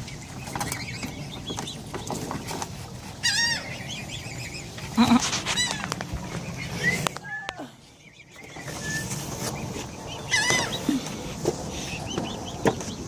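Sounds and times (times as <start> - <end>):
swans calling: 0.0 - 13.0.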